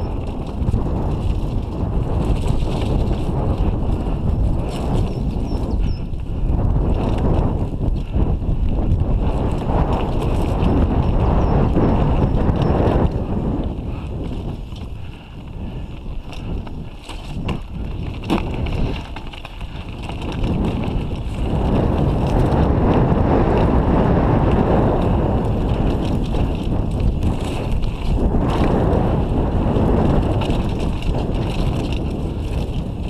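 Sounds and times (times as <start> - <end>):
bike tyres rattling on trail: 0.0 - 33.0
wind buffeting microphone: 0.0 - 33.0.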